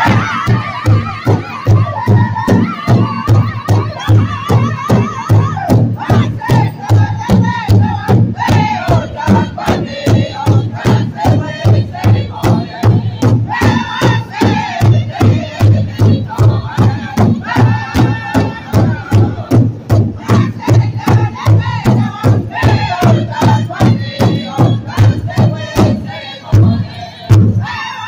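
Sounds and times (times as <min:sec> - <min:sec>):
large hide drum beating: 0:00.0 - 0:27.9
men singing high-pitched chorus: 0:00.0 - 0:28.0.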